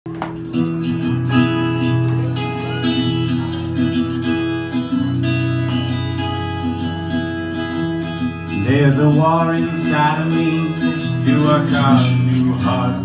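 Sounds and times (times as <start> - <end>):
acoustic guitar strumming: 0.1 - 13.0.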